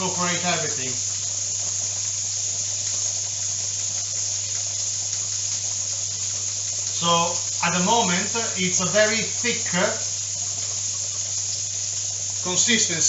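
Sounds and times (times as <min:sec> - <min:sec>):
low steady hum: 0:00.0 - 0:13.0
meat sizzling in a hot pan: 0:00.0 - 0:13.0.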